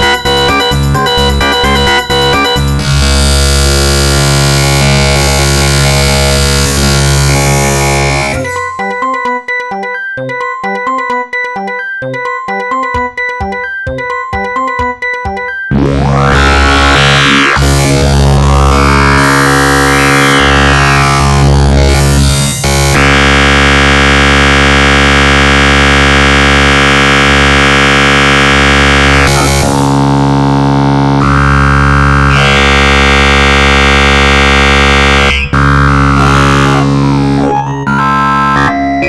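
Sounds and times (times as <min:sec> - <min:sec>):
synthesized chord ringtone: 0:00.0 - 0:31.6, 0:32.3 - 0:39.0.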